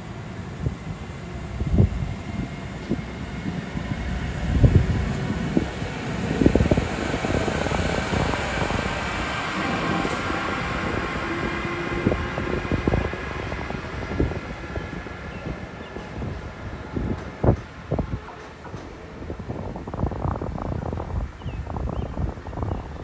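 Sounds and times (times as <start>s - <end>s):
train rushing on rails: 0.0s - 23.0s
wind buffeting microphone: 0.0s - 23.0s.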